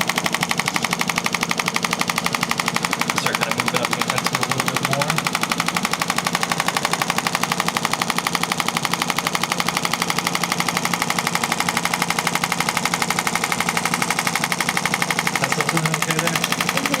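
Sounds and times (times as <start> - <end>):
rapid sharp clicking pulses: 0.0 - 17.0.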